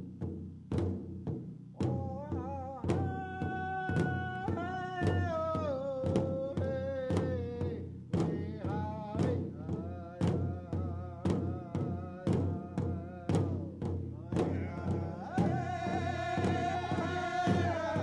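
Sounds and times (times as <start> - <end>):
large drum beating: 0.0 - 18.0
voices singing a chant: 1.9 - 7.7, 8.3 - 18.0.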